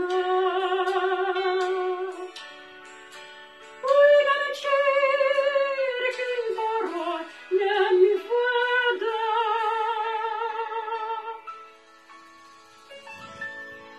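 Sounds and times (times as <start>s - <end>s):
slow hymn melody: 0.0s - 13.9s.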